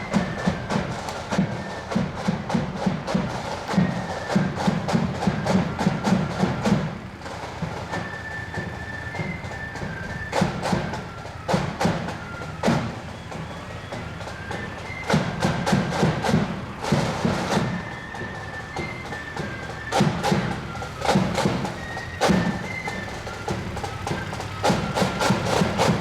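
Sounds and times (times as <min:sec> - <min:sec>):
high flute lines: 0:00.0 - 0:26.0
snare drumming: 0:00.0 - 0:26.0.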